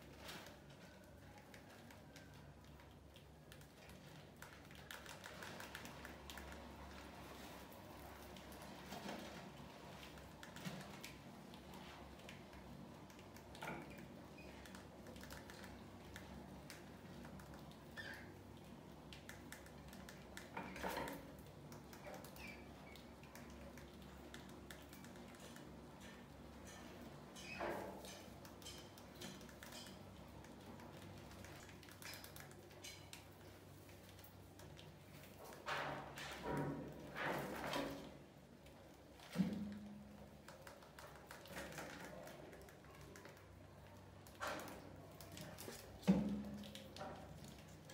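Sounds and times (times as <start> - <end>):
light ticks and scratches: 0.0 - 47.9
rats scurrying on tiles: 0.0 - 47.9.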